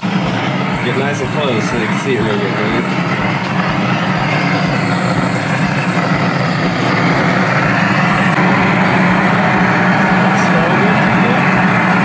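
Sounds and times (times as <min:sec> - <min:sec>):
propane torch roaring: 0:00.0 - 0:12.0.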